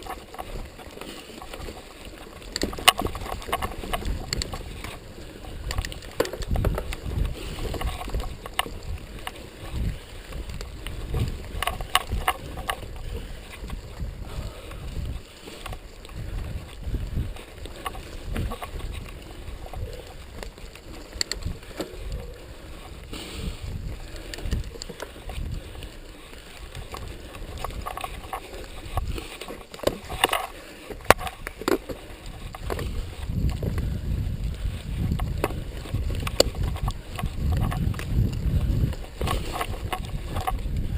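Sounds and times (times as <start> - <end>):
bike rattling over bumps: 0.0 - 40.9
wind rumble on microphone: 0.0 - 40.9.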